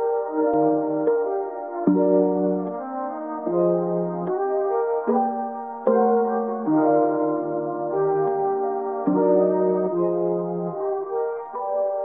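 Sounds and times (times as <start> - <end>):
soft horn-like chords: 0.0 - 12.0.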